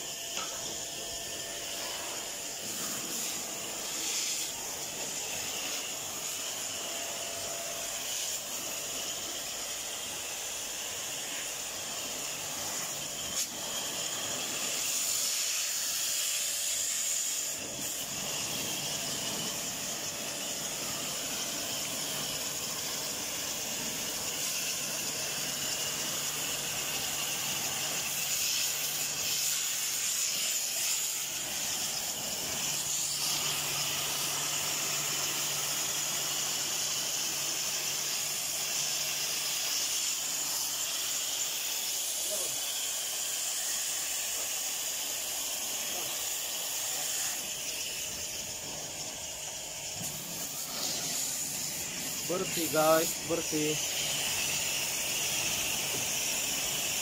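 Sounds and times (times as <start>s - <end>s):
water jet spraying metal coil: 0.0s - 57.0s.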